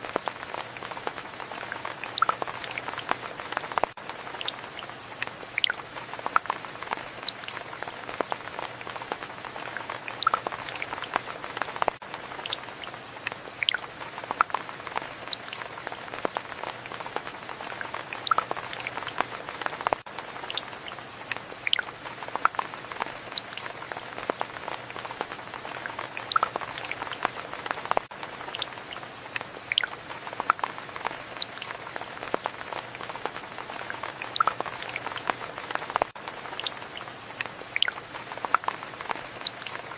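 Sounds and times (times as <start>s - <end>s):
raindrops striking close: 0.0s - 39.9s
steady rain: 0.0s - 39.9s.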